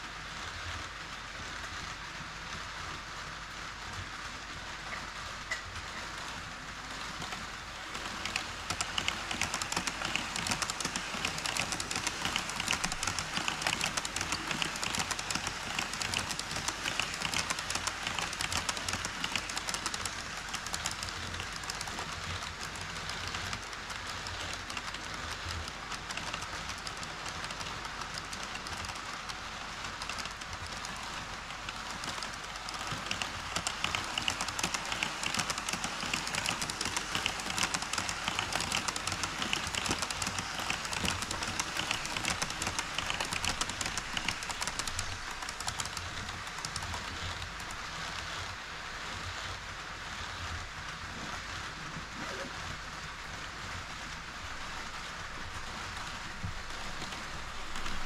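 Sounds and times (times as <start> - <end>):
model train wheels rattling: 4.9 - 58.0.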